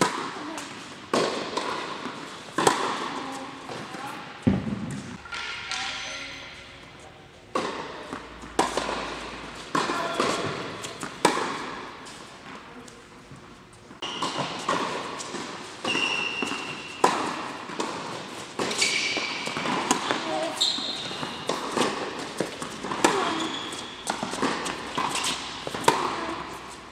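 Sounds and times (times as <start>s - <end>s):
tennis balls struck and bouncing: 0.0s - 5.8s, 7.5s - 12.6s, 13.9s - 26.9s.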